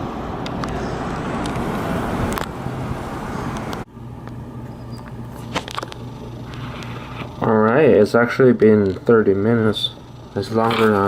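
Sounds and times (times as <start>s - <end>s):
road traffic noise: 0.0s - 7.5s, 8.2s - 11.0s.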